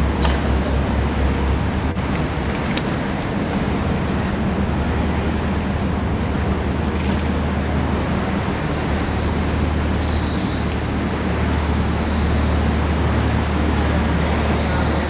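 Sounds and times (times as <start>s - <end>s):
boat engine droning: 0.0s - 15.0s
water rushing: 0.0s - 15.0s.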